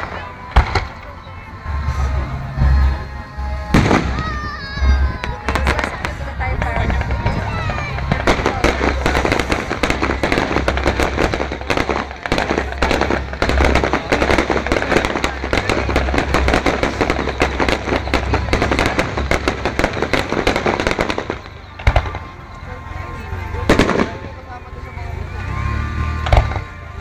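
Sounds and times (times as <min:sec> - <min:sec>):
fireworks crackling and banging: 0:00.0 - 0:27.0.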